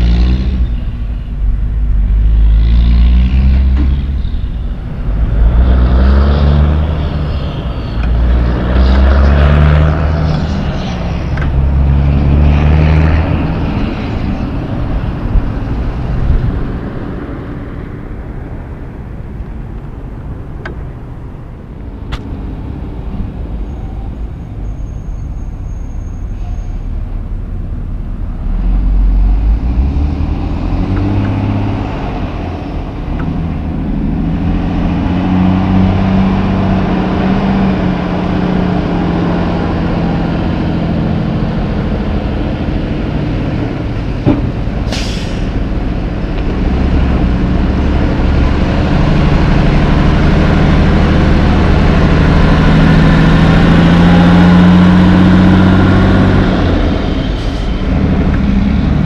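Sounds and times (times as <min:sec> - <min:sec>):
diesel truck engine pulling away: 0:00.0 - 0:59.0.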